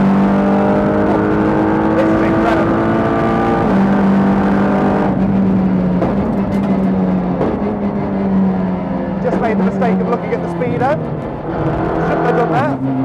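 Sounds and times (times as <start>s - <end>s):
race car engine under power: 0.0s - 13.0s.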